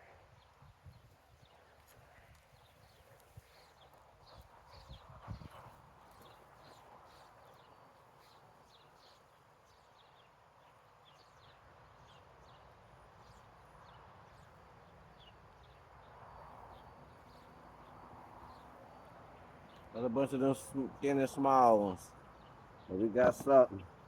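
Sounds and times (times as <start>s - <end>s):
small birds chirping: 0.4s - 24.0s.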